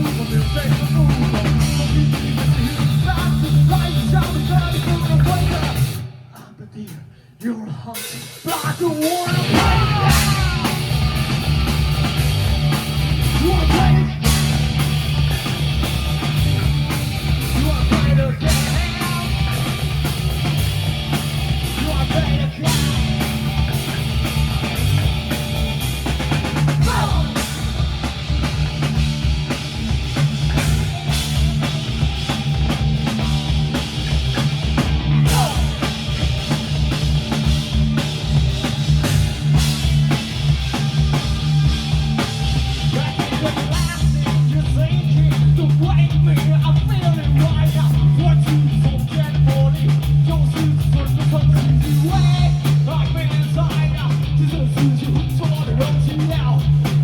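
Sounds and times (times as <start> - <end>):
live rock band playing: 0.0 - 6.3, 8.0 - 57.0.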